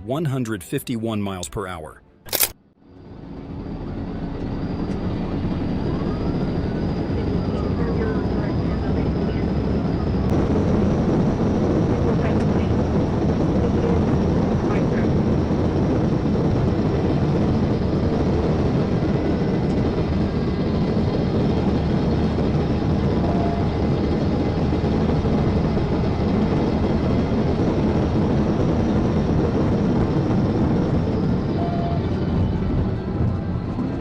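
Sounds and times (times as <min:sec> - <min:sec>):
wind and road noise: 0:02.3 - 0:34.0.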